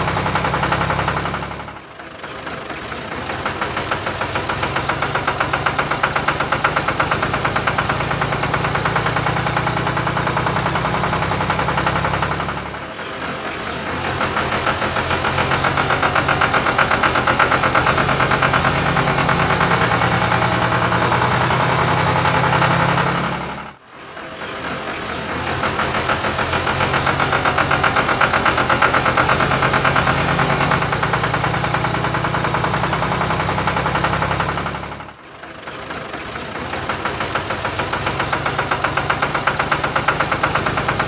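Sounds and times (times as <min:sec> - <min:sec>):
tractor engine knocking: 0:00.0 - 0:41.0.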